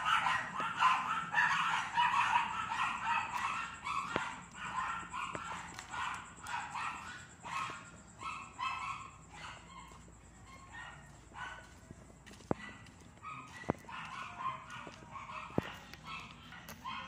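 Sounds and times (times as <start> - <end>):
dog barking: 0.0 - 11.8, 12.4 - 17.0.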